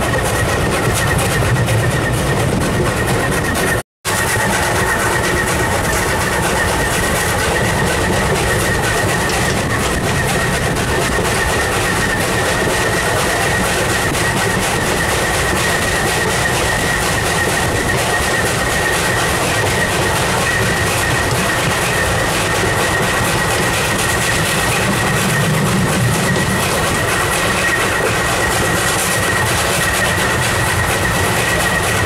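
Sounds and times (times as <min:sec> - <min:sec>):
high squeal: 0:00.0 - 0:32.0
train wheels rattling on rail: 0:00.0 - 0:32.0.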